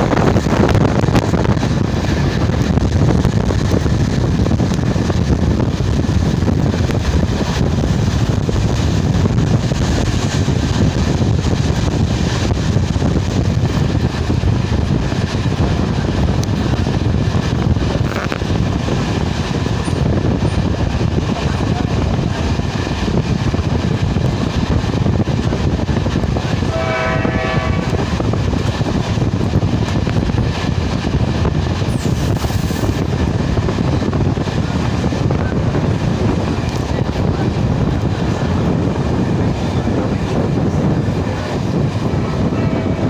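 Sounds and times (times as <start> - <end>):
train rumbling inside carriage: 0.0 - 43.0.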